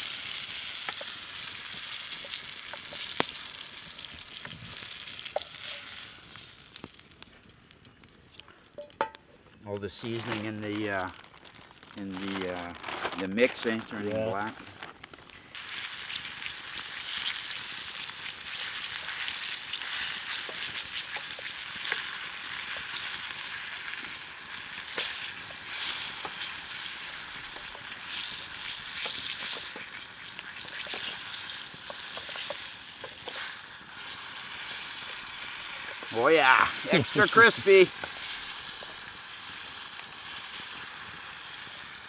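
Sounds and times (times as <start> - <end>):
fish sizzling in hot oil: 0.0 - 7.8, 15.3 - 42.0.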